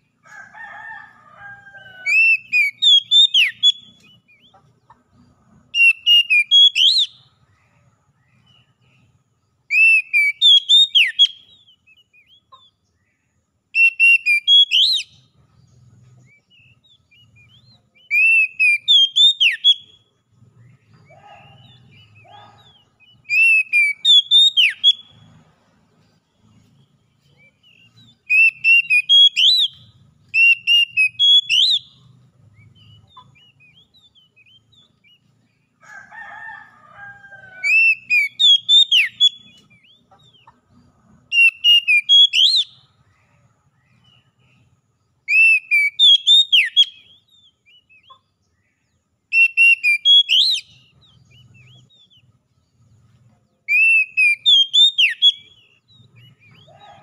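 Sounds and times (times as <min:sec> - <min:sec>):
bird singing whistled notes: 0:01.8 - 0:04.7, 0:05.7 - 0:25.4, 0:26.0 - 0:35.7, 0:37.4 - 0:40.6, 0:41.3 - 0:52.9, 0:53.6 - 0:57.0.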